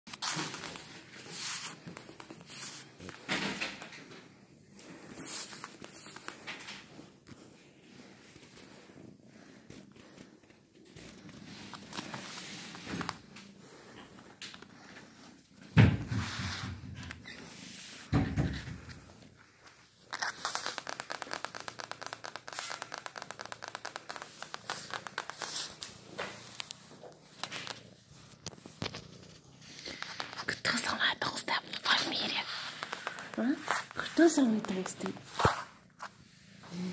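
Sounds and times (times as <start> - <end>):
hand rubbing cat fur: 0.1 - 3.3, 4.6 - 18.2, 18.8 - 30.9, 31.5 - 36.9.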